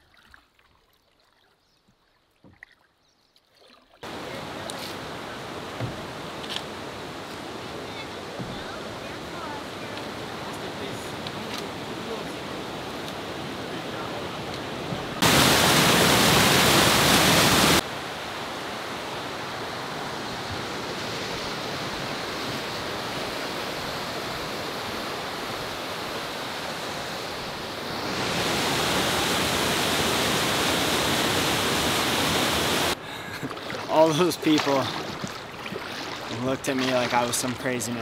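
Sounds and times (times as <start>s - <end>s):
creek water rushing: 4.0s - 38.0s.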